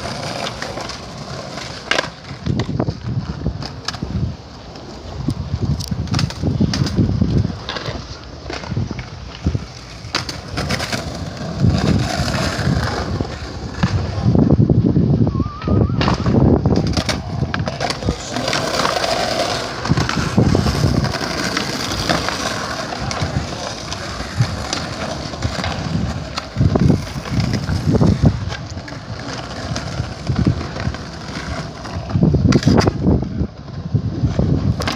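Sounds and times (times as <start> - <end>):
skateboard clacking on ground: 0.0 - 14.7, 15.6 - 34.9
skateboard wheels rolling: 0.0 - 34.9.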